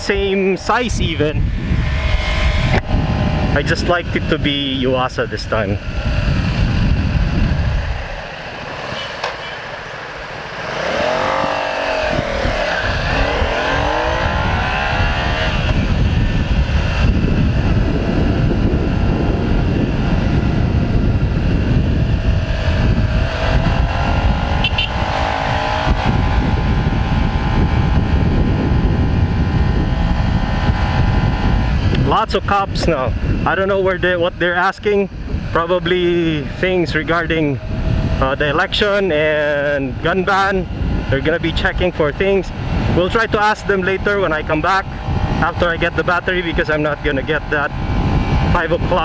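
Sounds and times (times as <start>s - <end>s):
motorcycle engine running: 0.0s - 49.0s
wind buffeting microphone: 0.0s - 49.0s.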